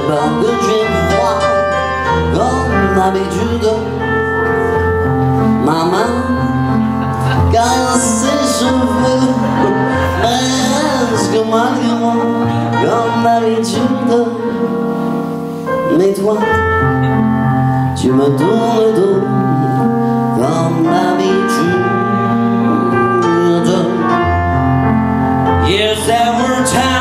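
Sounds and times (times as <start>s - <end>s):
man singing into microphone: 0.0s - 27.0s
sustained keyboard chords: 0.0s - 27.0s.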